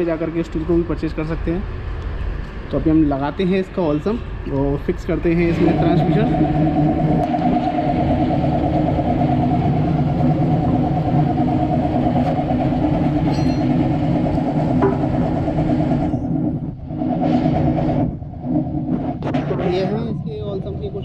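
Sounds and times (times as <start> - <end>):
mechanical drone with flutter: 0.0 - 21.0.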